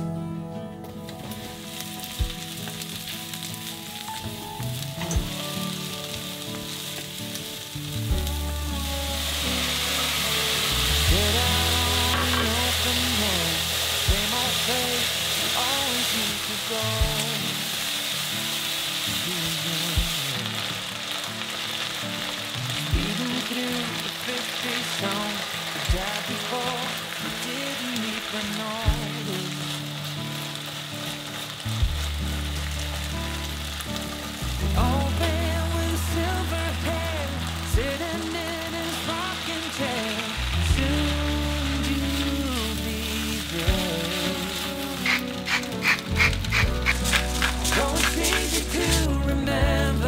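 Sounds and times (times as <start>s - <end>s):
onions and mushrooms sizzling: 0.8s - 50.0s.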